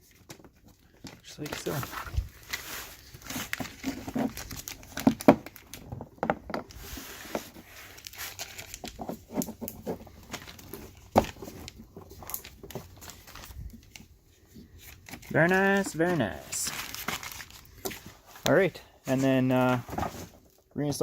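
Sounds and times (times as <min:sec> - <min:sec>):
plastic rustling: 0:00.0 - 0:20.7.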